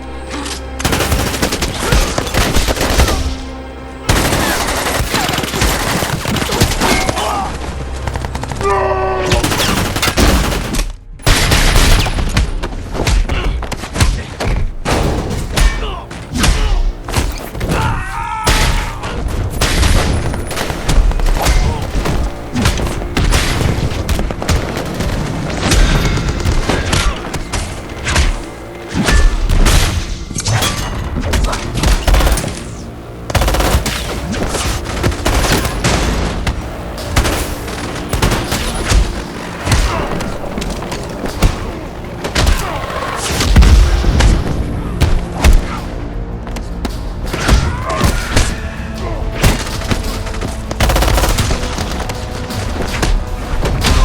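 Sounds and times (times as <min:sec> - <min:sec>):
dramatic music: 0:00.0 - 0:54.0.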